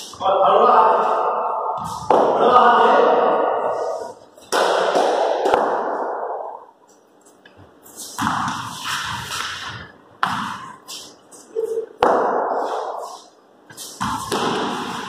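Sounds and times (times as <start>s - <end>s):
echoing voices: 0.0s - 6.8s, 7.5s - 15.0s.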